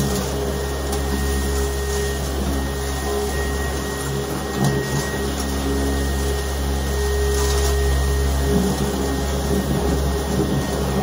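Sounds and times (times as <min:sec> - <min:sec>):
stick vacuum motor hum: 0:00.0 - 0:11.0.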